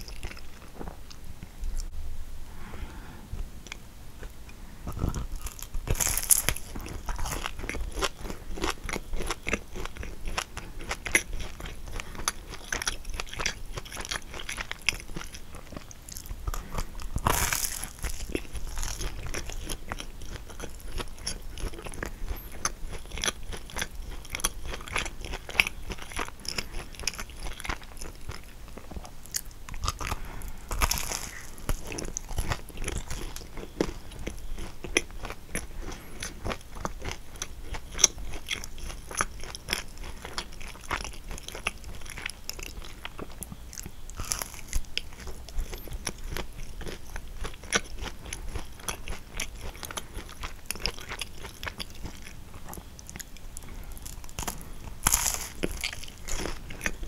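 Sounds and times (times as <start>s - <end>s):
crunchy pastry being chewed: 0.0s - 1.9s, 3.7s - 57.0s.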